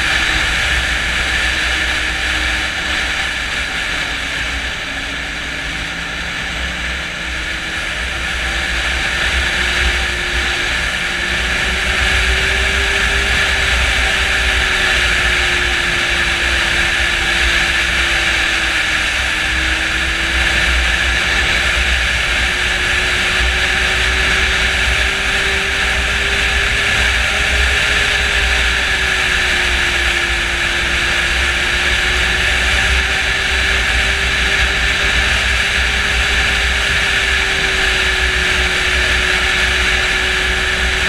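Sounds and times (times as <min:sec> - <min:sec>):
snowmobile engine running: 0:00.0 - 0:41.0.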